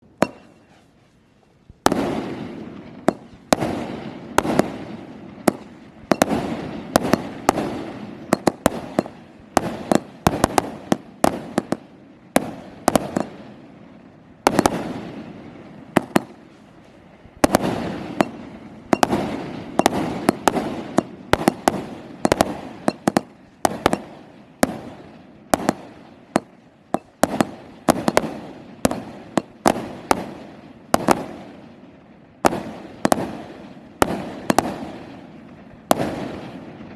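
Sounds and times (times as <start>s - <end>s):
firework cake firing bangs: 0.2s - 0.8s, 1.8s - 13.8s, 14.4s - 36.9s.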